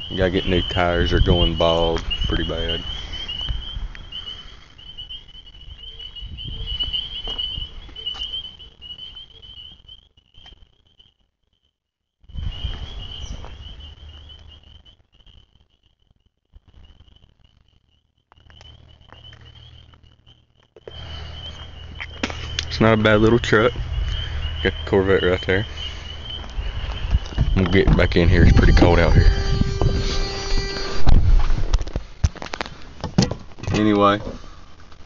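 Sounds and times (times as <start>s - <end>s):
insect chorus chirping: 0.0s - 35.0s.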